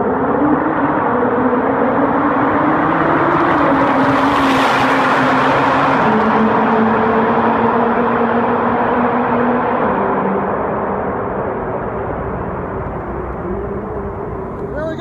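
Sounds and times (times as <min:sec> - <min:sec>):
car exhaust at high revs: 0:00.0 - 0:15.0.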